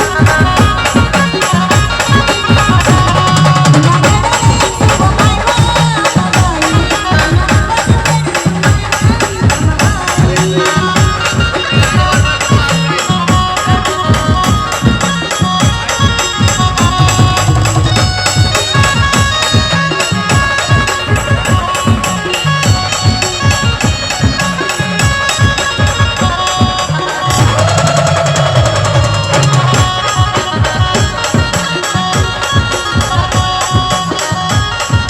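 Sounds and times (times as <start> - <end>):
drum and jingling percussion: 0.0 - 35.0.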